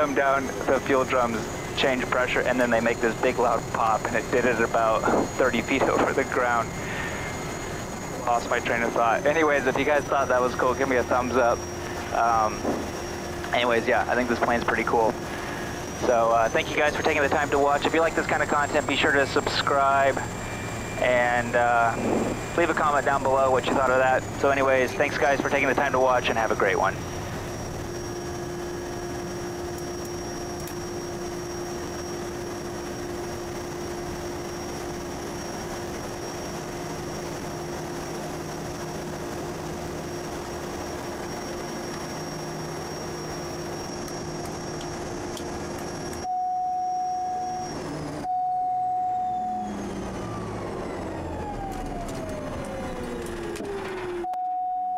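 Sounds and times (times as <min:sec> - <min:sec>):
warning tone: 0:00.0 - 0:37.8, 0:40.8 - 0:54.9
turboprop engine whine: 0:00.0 - 0:54.9.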